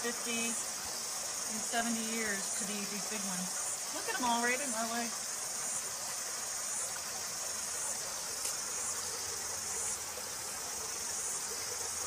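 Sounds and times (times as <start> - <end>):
faint hiss: 0.0 - 12.0
high-pitched insect chorus: 0.0 - 12.0.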